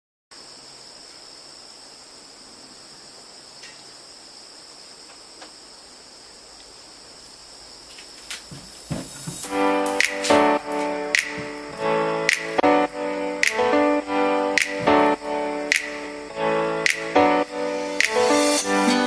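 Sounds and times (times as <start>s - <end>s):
crickets chirring: 0.3s - 19.0s.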